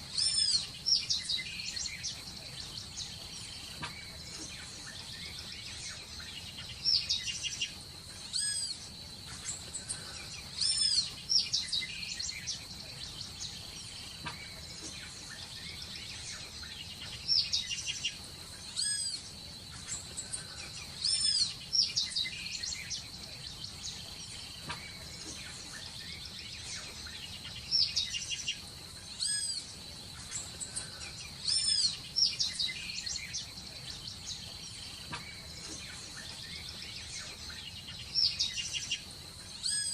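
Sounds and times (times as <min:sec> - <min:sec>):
birds chirping: 0:00.0 - 0:39.9
steady high-pitched whine: 0:00.0 - 0:39.9.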